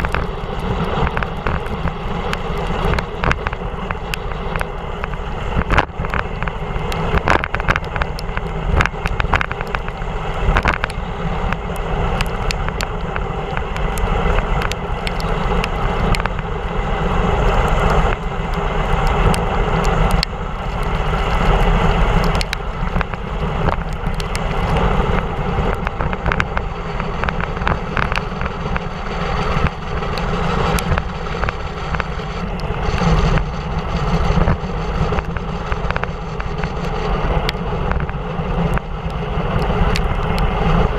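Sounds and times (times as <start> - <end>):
bike clicks and knocks: 0.0 - 16.6, 22.2 - 40.4
wet tyres hissing on road: 0.0 - 40.9
wind on microphone: 0.0 - 40.9.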